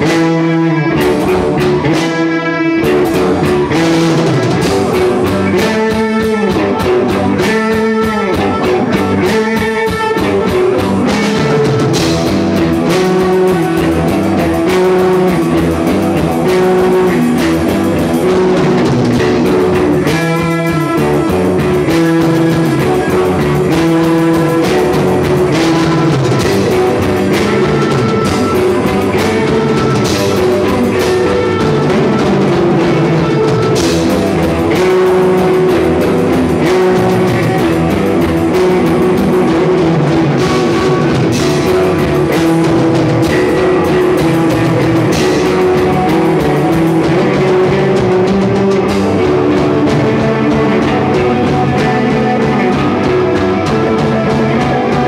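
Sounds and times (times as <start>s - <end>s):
rock music: 0.0s - 55.0s.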